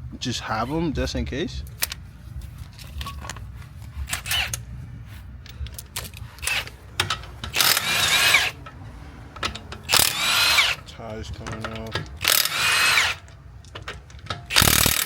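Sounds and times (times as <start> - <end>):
impact wrench whining: 1.6 - 15.0.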